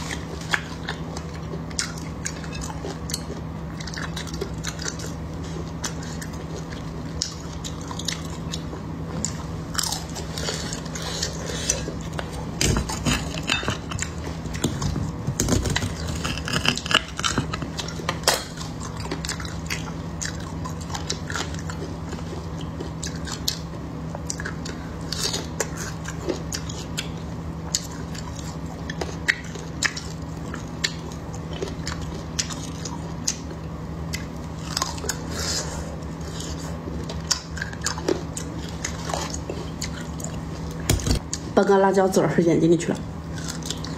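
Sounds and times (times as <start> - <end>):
biting and chewing fried meat: 0.0 - 41.6, 43.0 - 43.9
steady low hum: 0.0 - 43.9.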